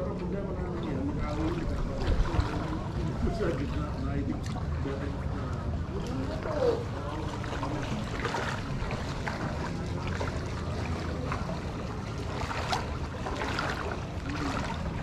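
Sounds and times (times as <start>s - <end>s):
steady low rumble: 0.0s - 15.0s
water sloshing and splashing: 0.0s - 15.0s.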